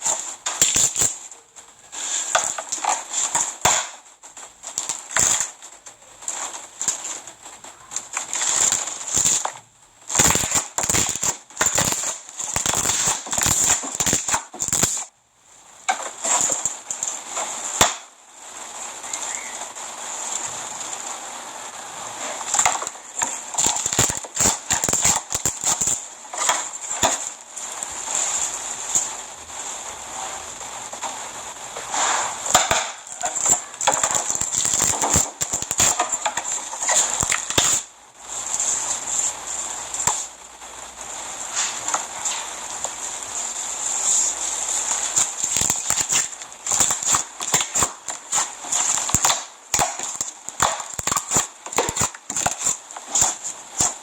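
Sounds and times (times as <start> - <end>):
slime popping and crackling: 0.0 - 18.3, 19.0 - 21.0, 21.7 - 54.0.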